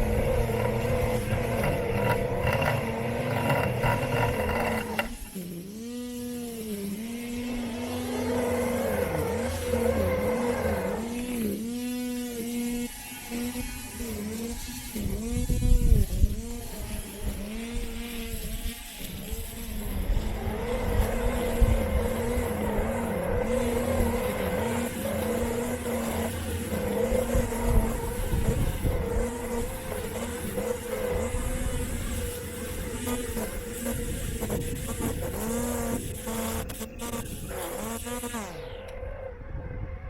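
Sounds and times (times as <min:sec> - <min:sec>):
electric motors humming: 0:00.0 - 0:40.0.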